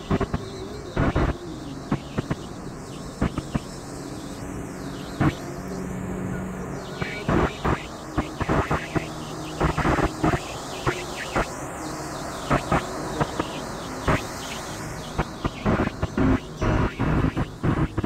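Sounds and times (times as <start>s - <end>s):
road noise inside car: 0.0s - 18.0s.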